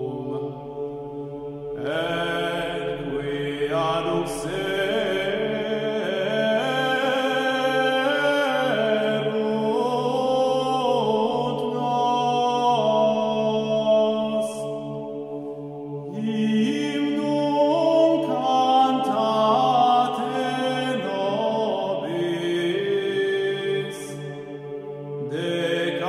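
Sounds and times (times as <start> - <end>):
solo voice chanting melisma: 0.0 - 26.0.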